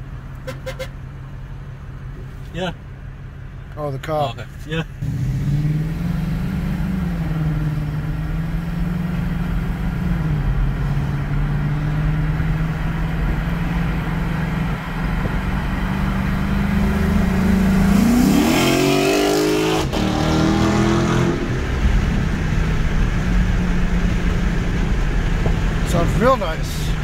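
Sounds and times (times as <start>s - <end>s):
car engine and exhaust revving: 0.0s - 27.0s.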